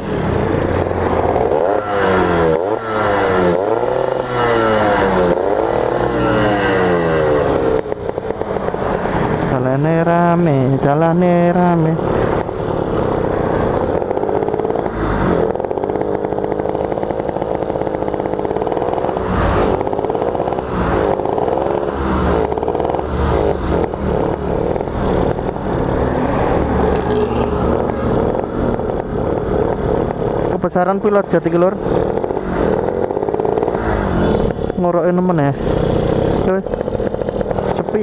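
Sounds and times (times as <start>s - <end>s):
two-stroke motorcycle engine revving: 0.0s - 38.0s.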